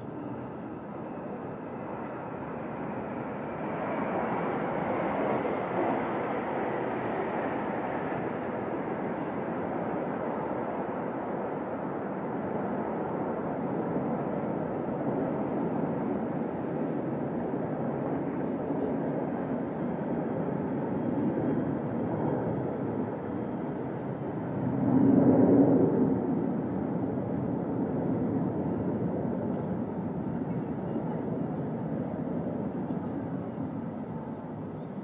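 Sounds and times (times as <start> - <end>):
aircraft engine drone overhead: 0.0 - 35.0.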